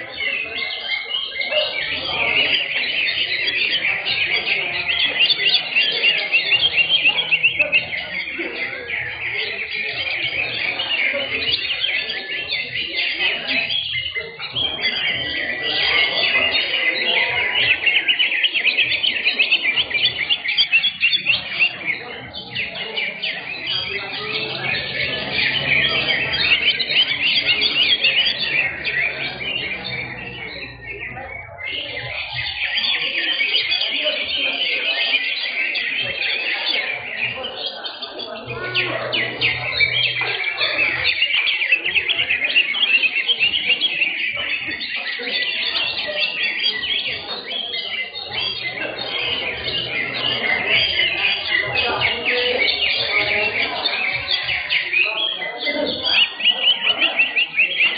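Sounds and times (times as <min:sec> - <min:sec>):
caged birds singing: 0:00.0 - 0:57.9.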